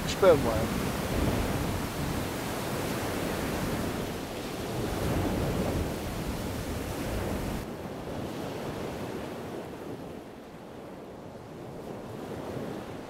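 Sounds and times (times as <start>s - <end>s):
surf washing on a beach: 0.0s - 13.0s
wind on microphone: 0.0s - 13.0s.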